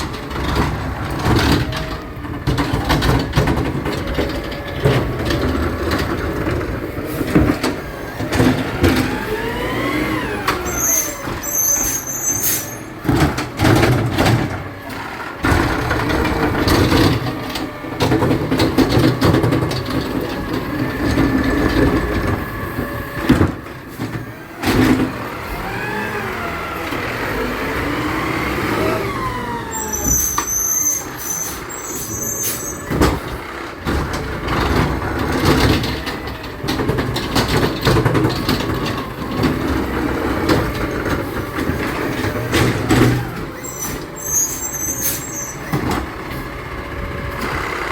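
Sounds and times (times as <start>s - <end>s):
garbage truck engine running: 0.0s - 47.9s.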